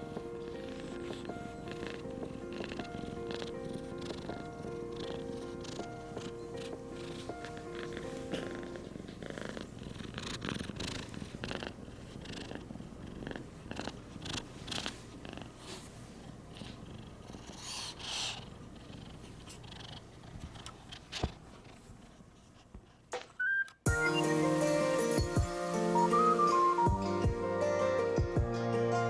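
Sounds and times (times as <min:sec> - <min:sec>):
kitten purring: 0:00.0 - 0:23.6.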